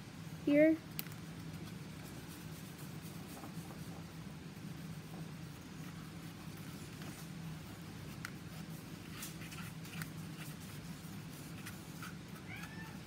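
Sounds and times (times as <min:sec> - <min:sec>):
steady low hum: 0:00.0 - 0:13.0
paintbrush scratchy strokes: 0:01.2 - 0:13.0.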